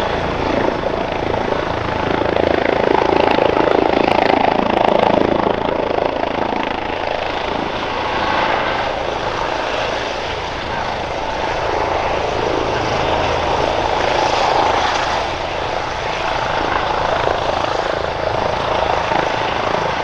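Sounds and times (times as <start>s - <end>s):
helicopter taking off: 0.0s - 20.0s.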